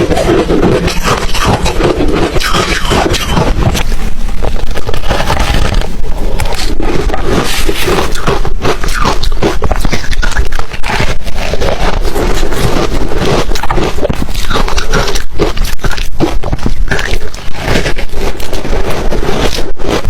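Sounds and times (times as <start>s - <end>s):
ice crunching being chewed: 0.0s - 20.0s.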